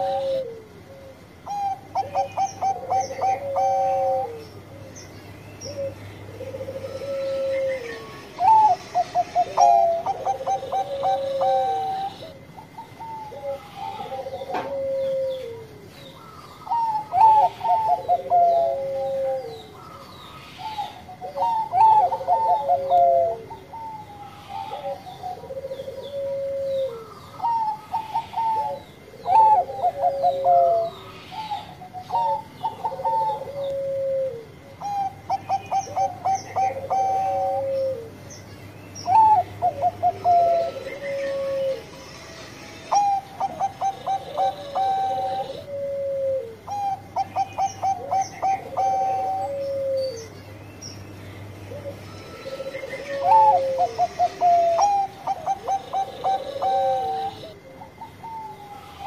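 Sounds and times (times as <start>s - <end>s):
dove cooing: 0.0s - 50.4s, 51.6s - 59.0s.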